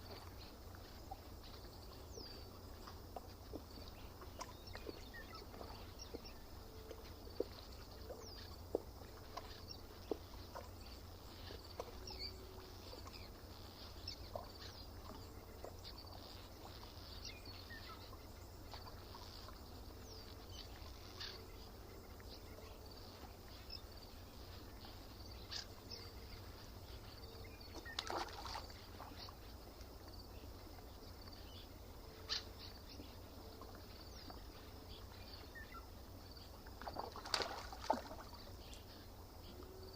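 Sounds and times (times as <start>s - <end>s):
water clicking at shore: 0.0s - 39.8s.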